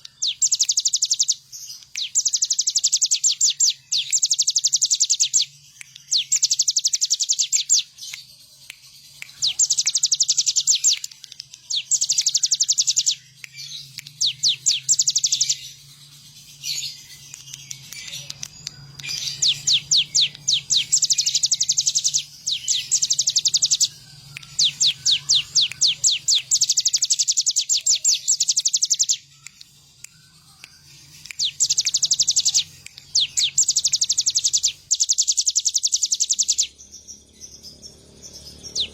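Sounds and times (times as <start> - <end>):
bird singing rapid high notes: 0.0 - 38.9.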